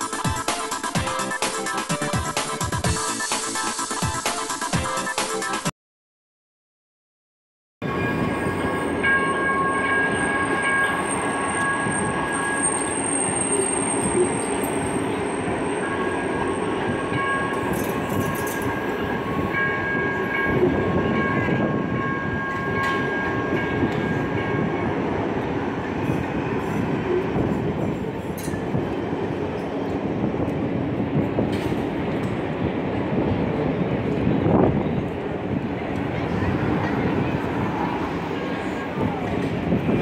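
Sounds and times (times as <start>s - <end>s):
train wheels rumbling on rails: 7.8s - 40.0s.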